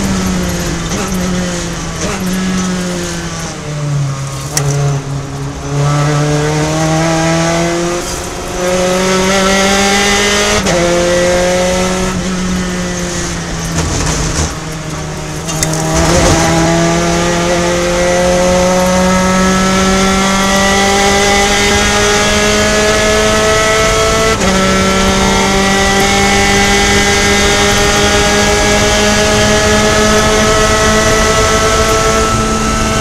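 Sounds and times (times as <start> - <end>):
race car engine downshifting: 0.0 - 33.0.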